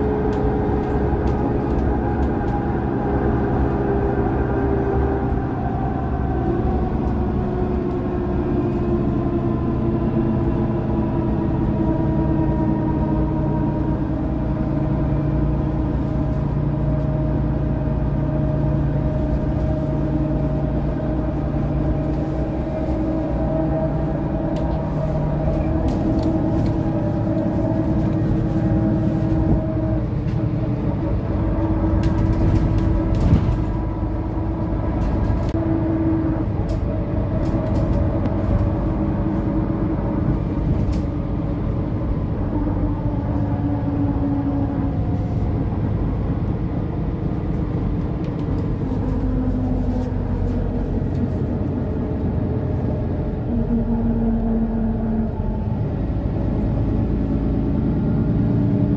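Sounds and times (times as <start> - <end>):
bus diesel engine running: 0.0 - 58.9.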